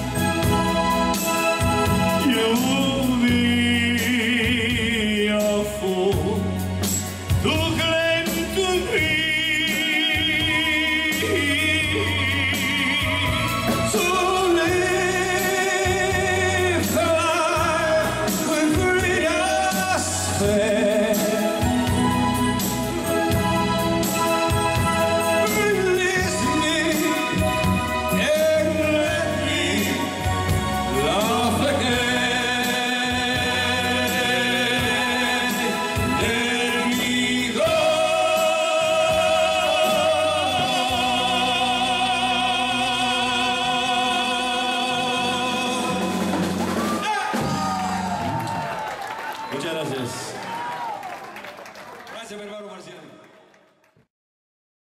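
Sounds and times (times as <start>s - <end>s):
band playing: 0.0s - 50.8s
men singing a ballad duet: 0.1s - 48.0s.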